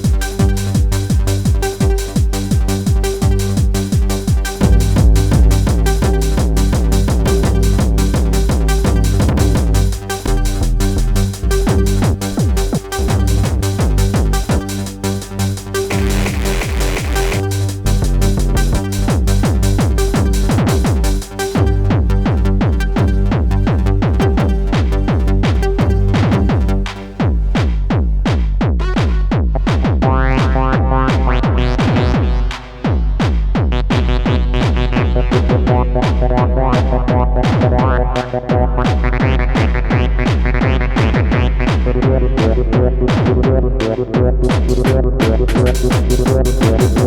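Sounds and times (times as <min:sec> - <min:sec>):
drum machine kick and drums: 0:00.0 - 0:47.0
synth bass and synth lines: 0:00.0 - 0:47.0.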